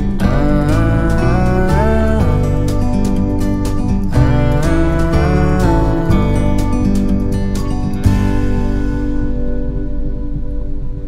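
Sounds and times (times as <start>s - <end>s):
strummed acoustic guitar song: 0.0s - 11.0s.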